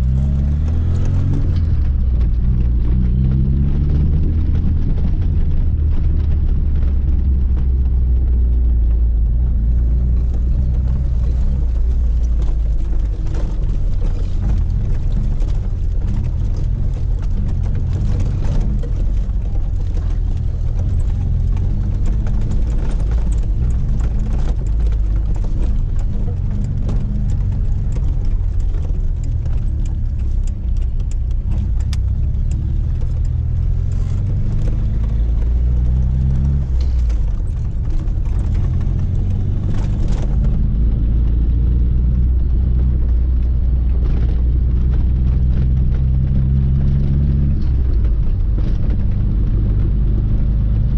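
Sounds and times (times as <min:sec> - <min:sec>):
knocks and rattles: 0:00.0 - 0:41.5
car engine accelerating: 0:00.0 - 0:50.9.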